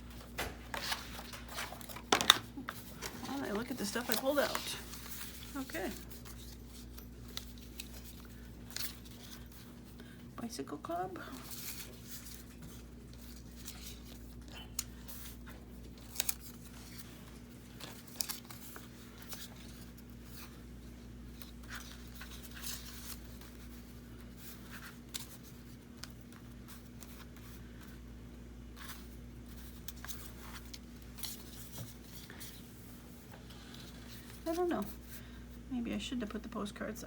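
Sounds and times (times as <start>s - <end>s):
paper rustling and shuffling: 0.0s - 35.4s.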